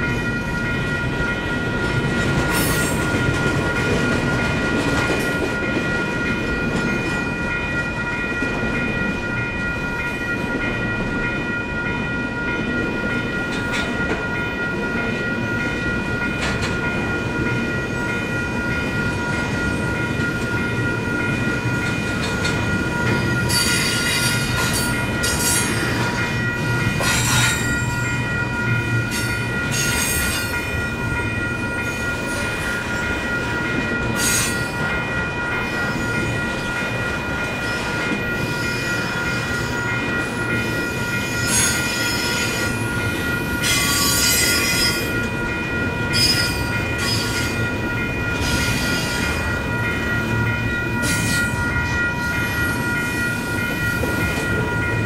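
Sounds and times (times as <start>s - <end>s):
crossing bells ringing: 0.0s - 55.0s
freight train rumbling past: 0.0s - 55.0s
wheels clattering on rail: 0.0s - 55.0s.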